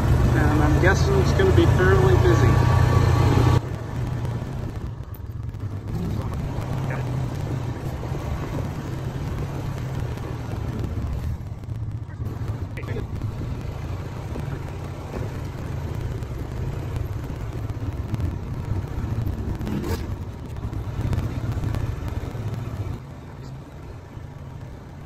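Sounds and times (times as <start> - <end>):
vehicle rumbling on gravel road: 0.0 - 25.0.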